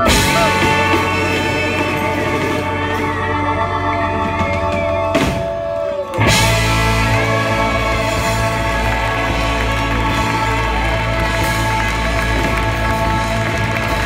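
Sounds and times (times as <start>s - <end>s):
rock band with horns playing: 0.0s - 14.0s.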